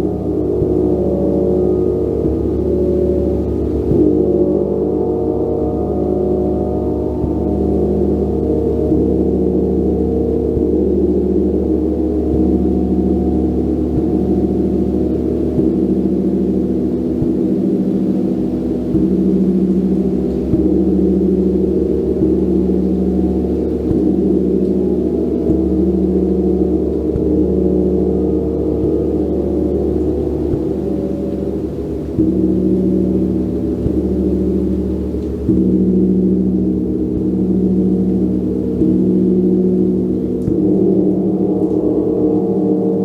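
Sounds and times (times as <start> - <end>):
gong strikes: 0.0 - 43.0.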